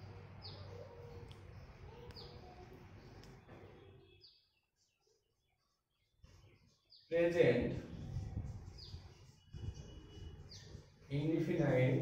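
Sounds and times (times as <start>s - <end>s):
small bird chirping: 0.0s - 7.1s, 7.9s - 11.2s.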